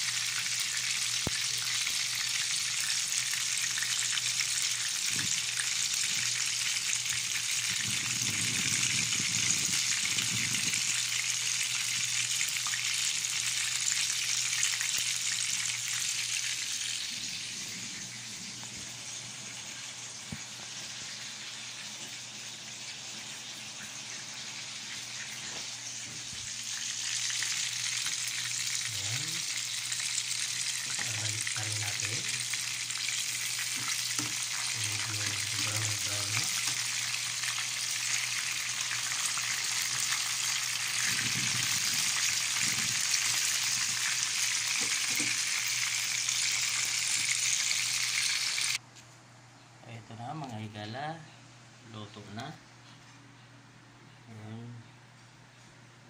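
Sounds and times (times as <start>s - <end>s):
oil sizzling from deep-frying: 0.0s - 48.8s.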